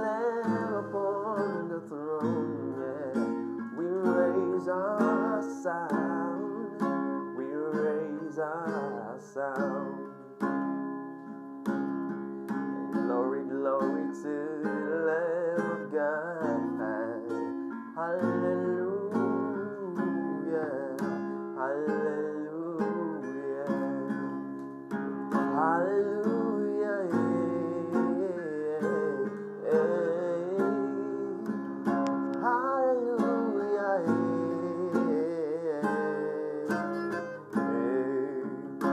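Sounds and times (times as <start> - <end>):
guitar music with sliding notes: 0.0 - 38.9.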